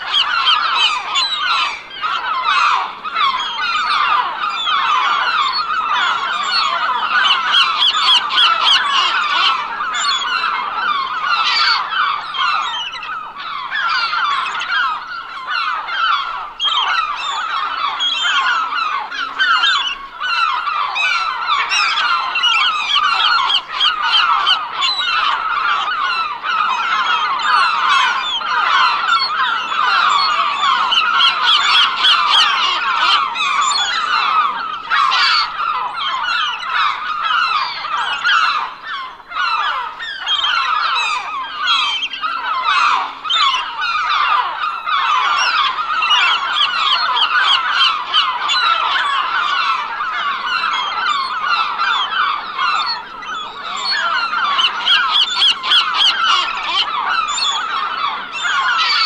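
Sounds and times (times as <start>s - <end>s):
seagulls squawking: 0.0s - 59.0s.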